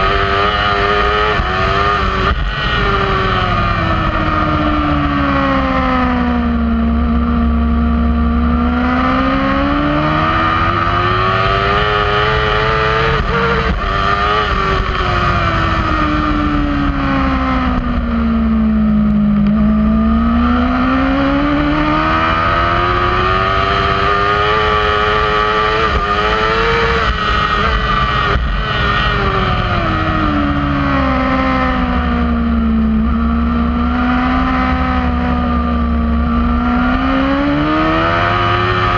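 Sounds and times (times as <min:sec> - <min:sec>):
low rumble of wind: 0:00.0 - 0:38.9
motorcycle engine revving: 0:00.0 - 0:38.9.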